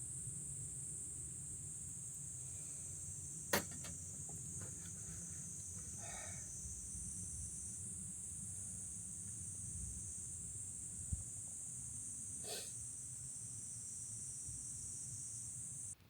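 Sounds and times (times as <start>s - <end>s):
night insects chirping: 0.0s - 16.0s.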